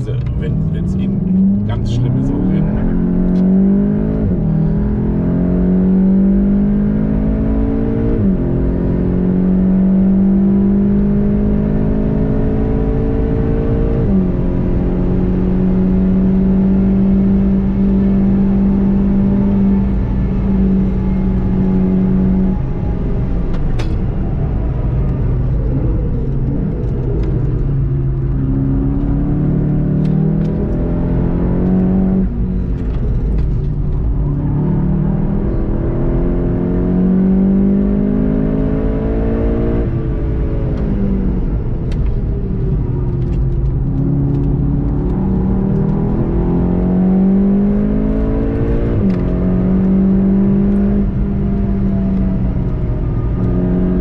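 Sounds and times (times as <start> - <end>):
car engine accelerating hard: 0.0 - 54.0
wind and tyre noise: 0.0 - 54.0.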